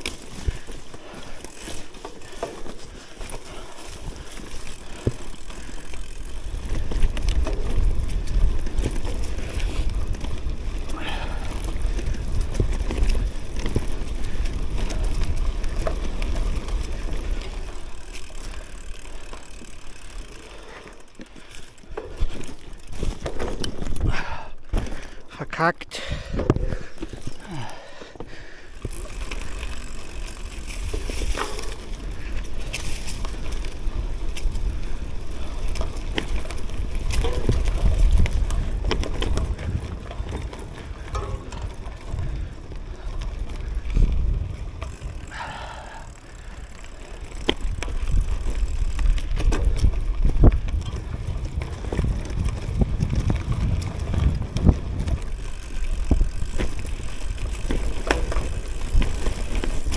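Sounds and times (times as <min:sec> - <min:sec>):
bike rattling over bumps: 0:00.0 - 0:59.9
bike tyres rolling on dirt: 0:00.0 - 0:59.9.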